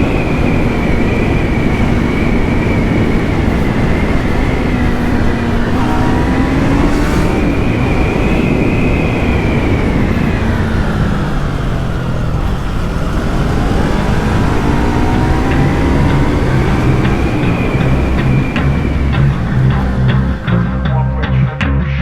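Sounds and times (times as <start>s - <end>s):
wind rush: 0.0s - 20.8s
motorcycle engine revving: 0.0s - 21.6s.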